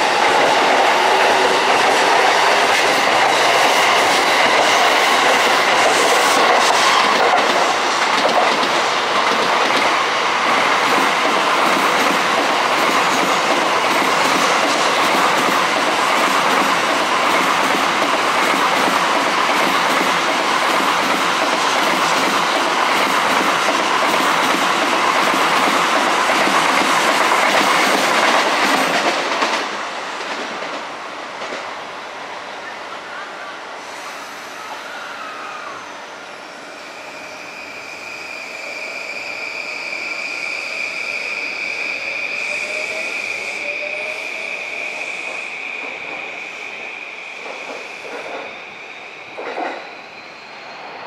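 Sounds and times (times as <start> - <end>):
electric train wheels on rails: 0.0 - 51.0.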